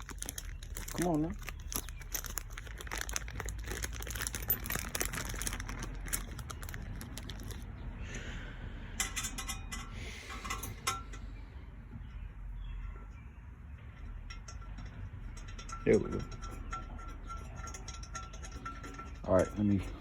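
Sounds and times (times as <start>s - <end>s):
metal tools clinking on engine parts: 0.0s - 7.7s, 8.9s - 20.0s.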